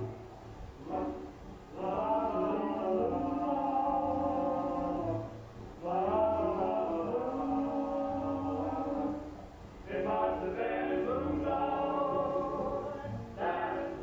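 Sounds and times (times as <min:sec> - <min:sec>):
long held sung notes: 0:00.0 - 0:14.0.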